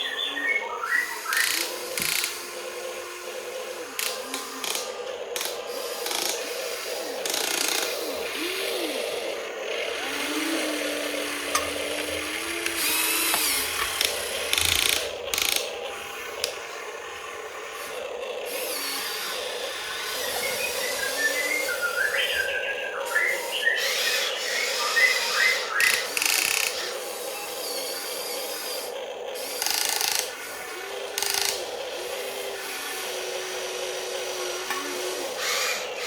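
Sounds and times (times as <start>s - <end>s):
toy electric motors whirring: 0.0s - 36.0s.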